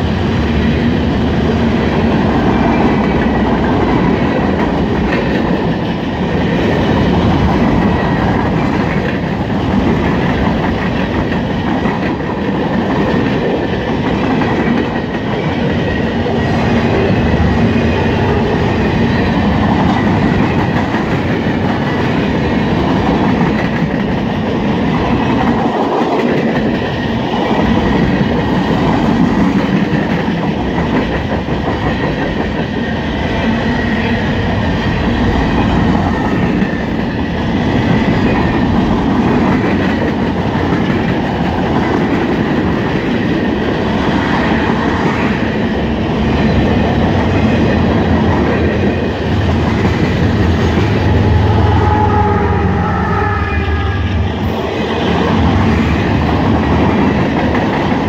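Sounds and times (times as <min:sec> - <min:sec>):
train wheels clattering over rails: 0:00.0 - 0:51.4.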